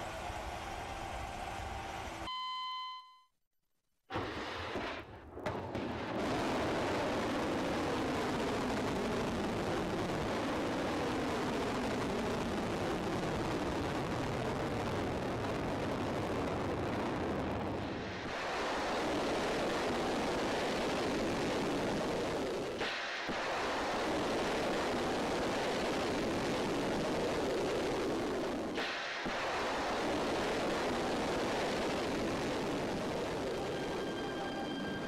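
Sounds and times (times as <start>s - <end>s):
rocket exhaust rumble: 4.1s - 35.0s.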